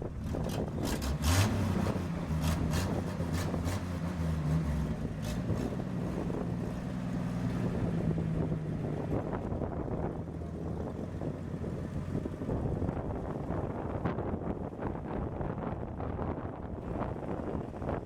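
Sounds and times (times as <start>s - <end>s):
truck engine running: 0.0s - 15.6s, 16.7s - 18.0s.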